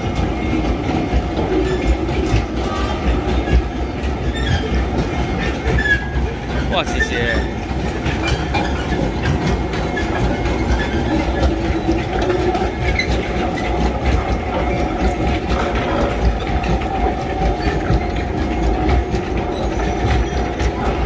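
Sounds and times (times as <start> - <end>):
train wagons clattering over rails: 0.0 - 21.0.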